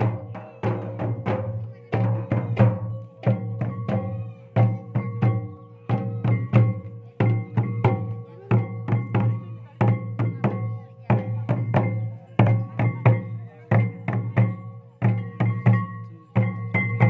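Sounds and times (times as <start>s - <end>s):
barrel drums: 0.0s - 17.0s
kettle drums beaten with sticks: 0.0s - 17.0s.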